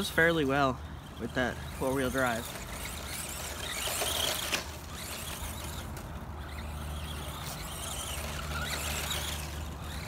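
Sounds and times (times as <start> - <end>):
toy truck electric motor whining: 0.0 - 10.0.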